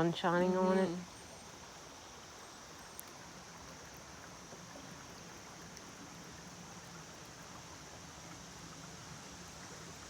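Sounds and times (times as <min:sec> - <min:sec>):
creek flowing faintly: 0:00.0 - 0:10.0.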